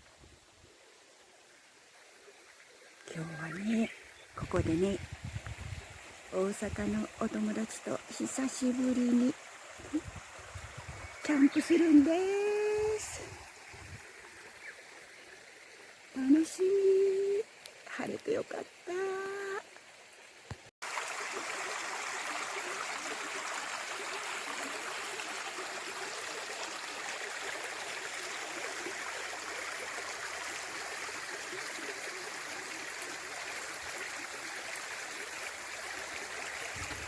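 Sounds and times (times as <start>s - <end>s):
stream flowing: 0.0s - 37.0s.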